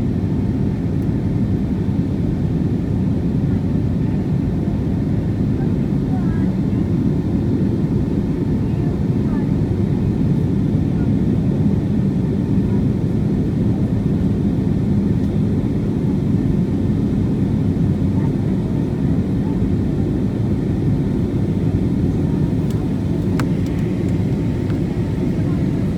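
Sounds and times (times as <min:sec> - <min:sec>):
jet engines rumbling in cabin: 0:00.0 - 0:25.9.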